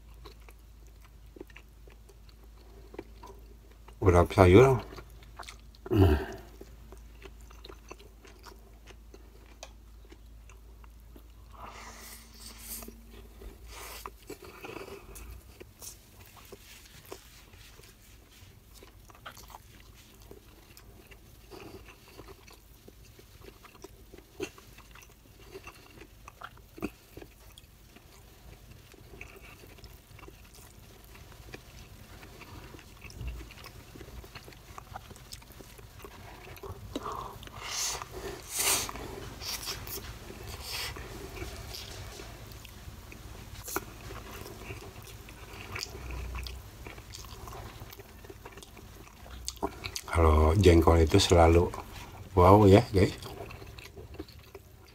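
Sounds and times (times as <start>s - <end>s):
person chewing food: 0.0s - 4.0s, 4.7s - 54.9s.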